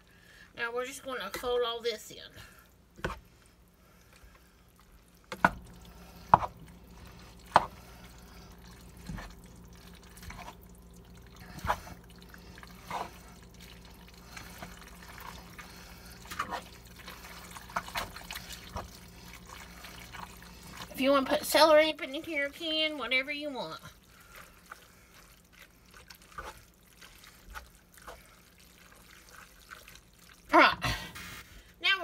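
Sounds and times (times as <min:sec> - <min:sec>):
wet squelching of noodles: 0:02.4 - 0:31.8.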